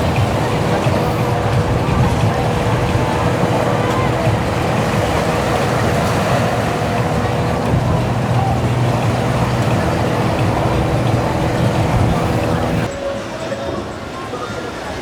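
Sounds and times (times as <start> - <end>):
constant low hum: 0.0 - 12.9
motorboat engines running: 0.0 - 15.0
rush of water: 0.0 - 15.0.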